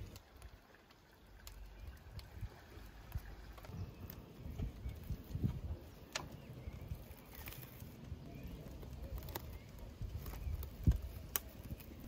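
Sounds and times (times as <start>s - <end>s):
cling film crinkling: 0.0s - 12.0s
faint bird chirps: 1.1s - 12.0s.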